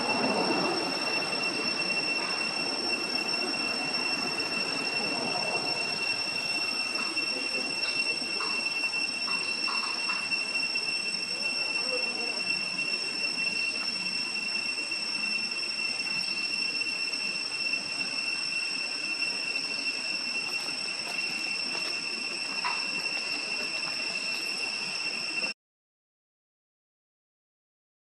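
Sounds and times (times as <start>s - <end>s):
high-pitched insect drone: 0.0s - 25.6s.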